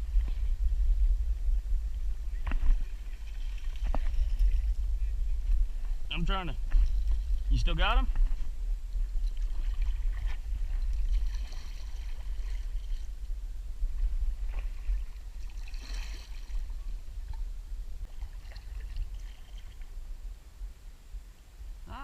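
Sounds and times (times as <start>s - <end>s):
water sloshing around a kayak: 0.0s - 6.0s, 6.6s - 20.1s
low microphone rumble: 0.0s - 22.0s.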